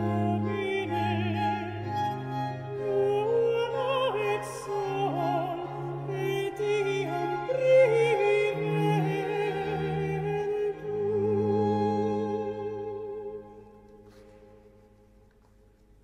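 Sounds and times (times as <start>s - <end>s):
string quartet playing: 0.0s - 13.8s.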